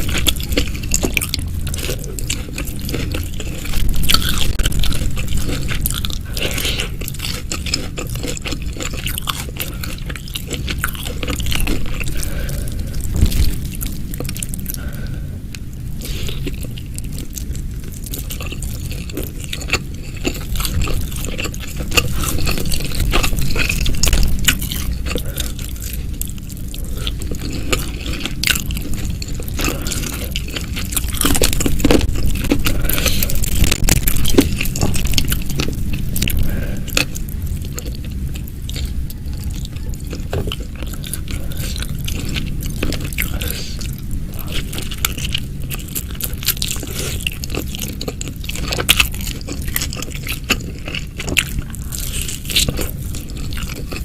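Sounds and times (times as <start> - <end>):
chewing and biting: 0.0 - 15.1, 16.0 - 54.0.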